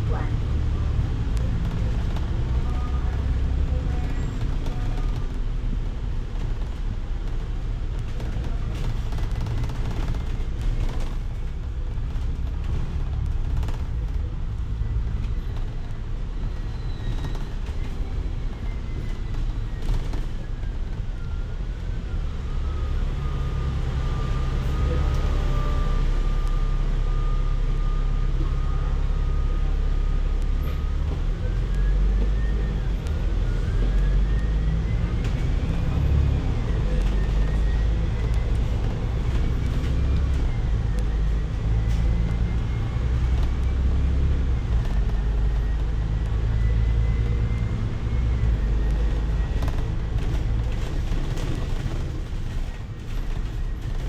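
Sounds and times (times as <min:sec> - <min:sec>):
bus engine rumble: 0:00.0 - 0:54.0
drivetrain whine: 0:00.0 - 0:54.0.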